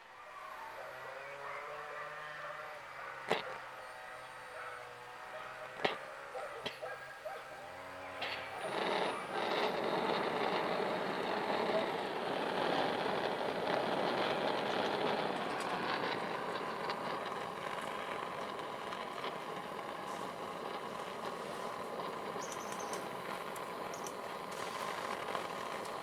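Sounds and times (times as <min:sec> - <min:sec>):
blowtorch hissing: 0:03.2 - 0:26.0.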